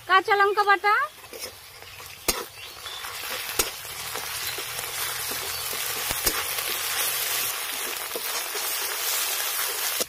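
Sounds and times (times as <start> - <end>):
paste sizzling in hot oil: 0.0 - 10.0
spatula scraping and knocking pan: 1.2 - 10.0.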